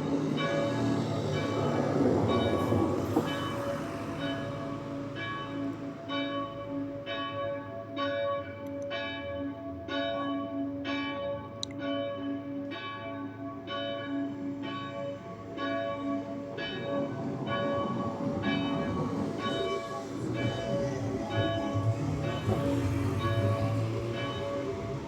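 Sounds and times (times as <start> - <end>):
church bells ringing peal: 0.0 - 25.0.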